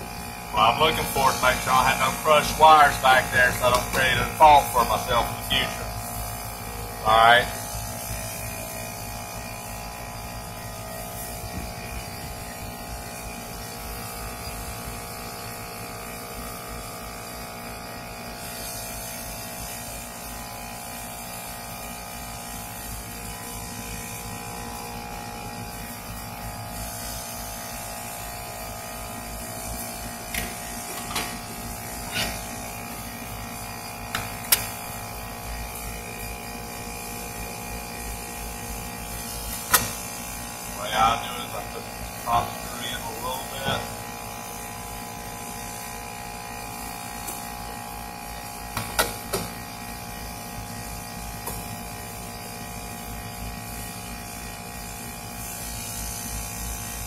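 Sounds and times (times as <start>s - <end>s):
air conditioning unit humming: 0.0s - 57.0s.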